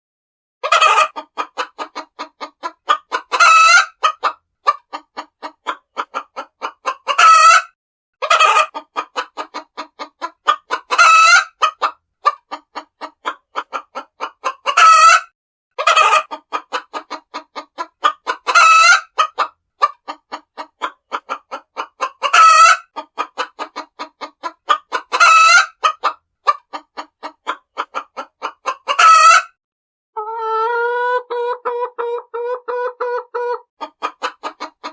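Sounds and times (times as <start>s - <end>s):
hens cackling: 0.6s - 29.6s, 30.2s - 34.9s.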